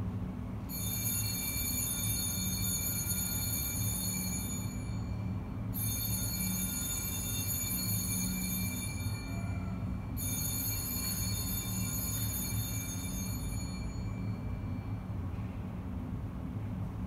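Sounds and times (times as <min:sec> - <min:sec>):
low steady hum: 0:00.0 - 0:17.0
small bells ringing: 0:00.7 - 0:15.2.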